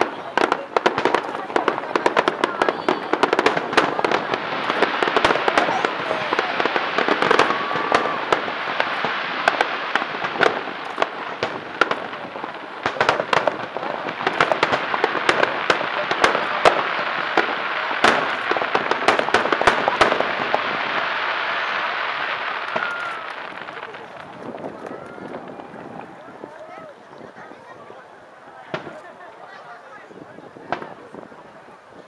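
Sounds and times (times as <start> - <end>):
fireworks bursting with sharp bangs: 0.0 - 32.0
fireworks crackling: 0.0 - 32.0.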